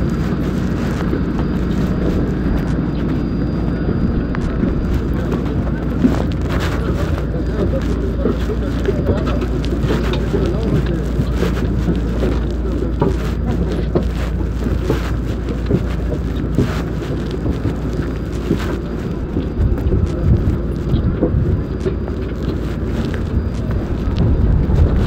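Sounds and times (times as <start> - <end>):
footsteps on metal stairs: 0.0 - 25.0
low rumble of airport noise: 0.0 - 25.0.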